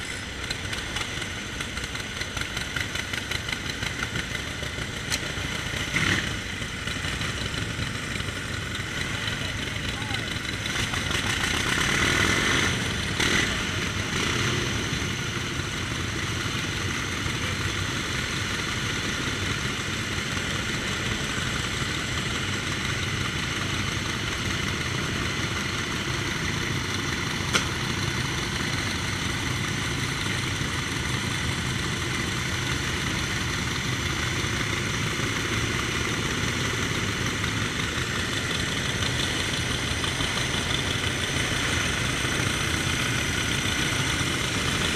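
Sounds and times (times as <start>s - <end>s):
motorcycle engines idling: 0.0s - 44.9s.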